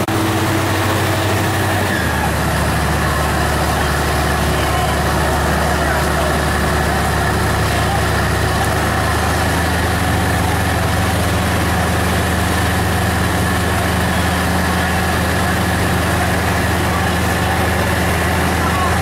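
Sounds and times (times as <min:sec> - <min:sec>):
fire engine motor running: 0:00.0 - 0:19.0
water rushing: 0:00.0 - 0:19.0.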